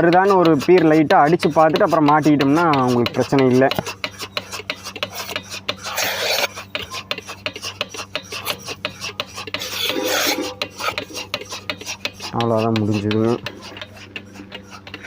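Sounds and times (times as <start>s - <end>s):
milking machine engine hum: 0.0s - 15.0s
rapid pulsator clicking: 0.0s - 15.0s.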